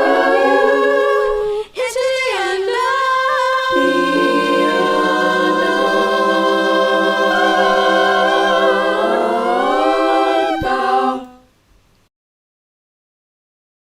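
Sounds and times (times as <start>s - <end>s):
voices singing in harmony: 0.0s - 11.5s.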